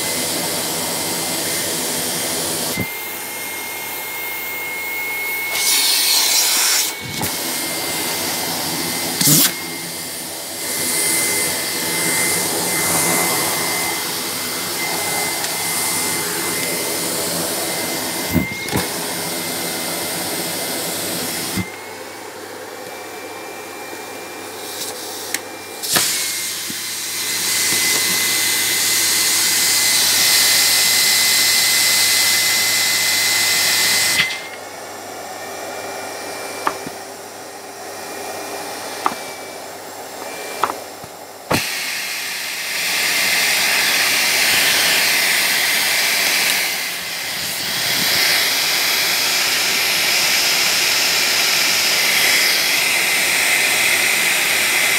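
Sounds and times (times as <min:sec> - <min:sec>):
vacuum cleaner whining: 0:00.0 - 0:54.9.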